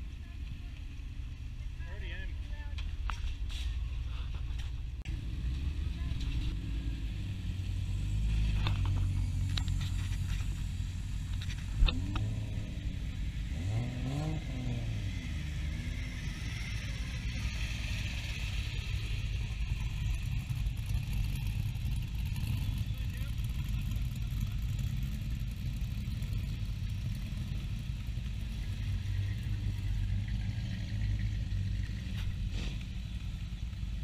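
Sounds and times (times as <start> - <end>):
cars driving past: 5.1 - 34.0
engine revving: 5.1 - 34.0.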